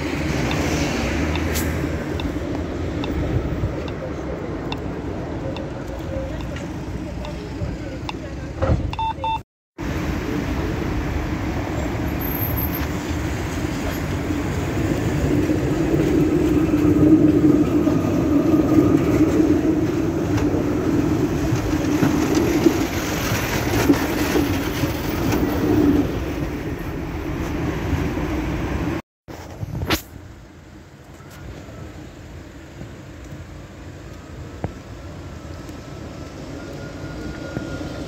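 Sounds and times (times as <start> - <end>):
tram passing on rails: 0.0 - 29.6, 30.2 - 38.0.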